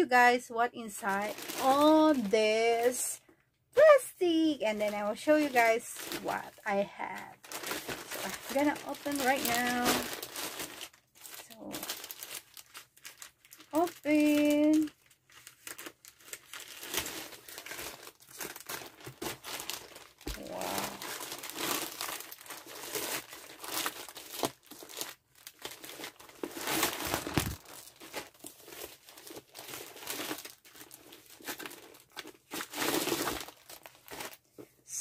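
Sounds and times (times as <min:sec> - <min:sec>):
plastic packaging crinkling and tearing: 0:01.0 - 0:03.1, 0:03.8 - 0:34.6.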